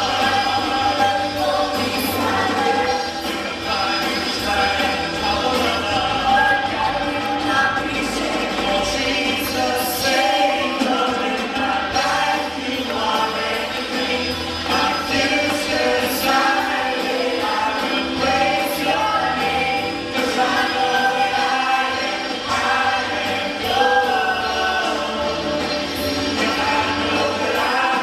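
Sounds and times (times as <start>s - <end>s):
electric guitar band: 0.0s - 28.0s
man and woman singing: 0.0s - 28.0s.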